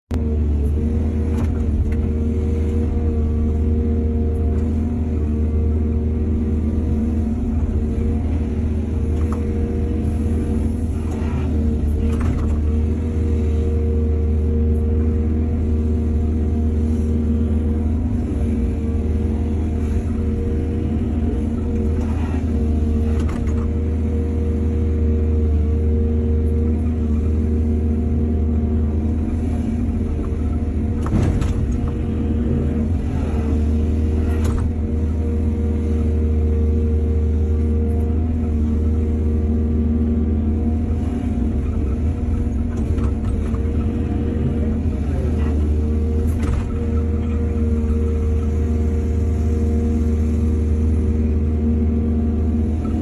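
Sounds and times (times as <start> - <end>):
heavy diesel engine rumbling: 0.1 - 53.0.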